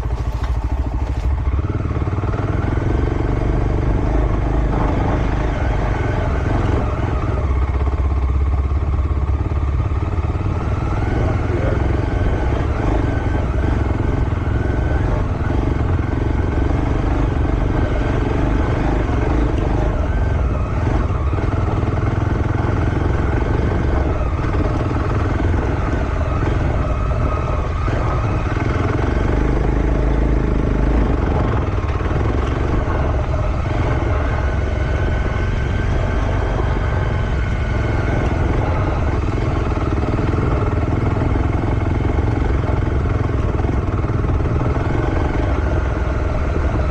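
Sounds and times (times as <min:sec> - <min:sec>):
motocross bike engine running: 0:00.0 - 0:46.9.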